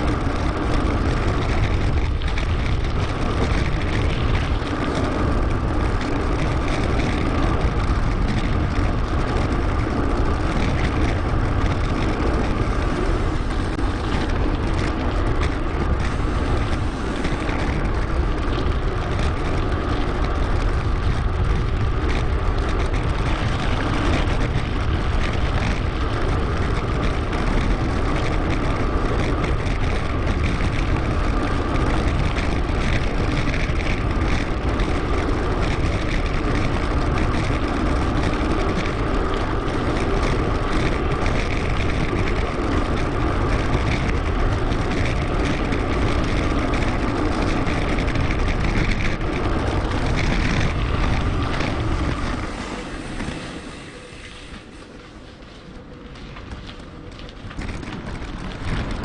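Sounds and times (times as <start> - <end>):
heavy low rumble: 0.0 - 59.0
wind noise on microphone: 0.0 - 59.0.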